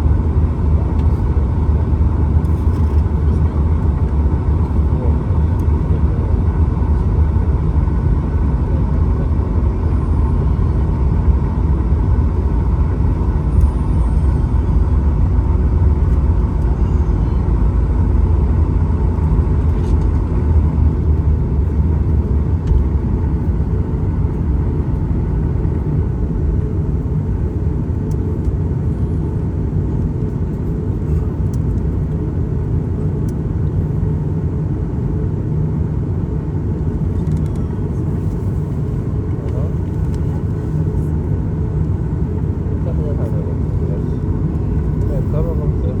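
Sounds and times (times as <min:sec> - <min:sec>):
faint engine whine: 0:00.0 - 0:46.0
jet airliner cabin rumble: 0:00.0 - 0:46.0.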